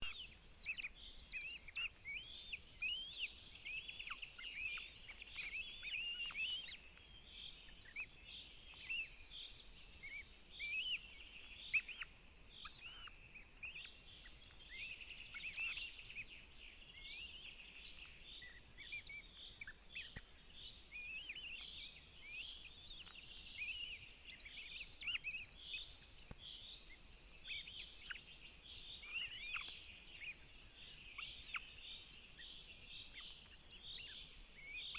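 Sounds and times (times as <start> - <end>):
birds chirping and singing: 0.0 - 34.9.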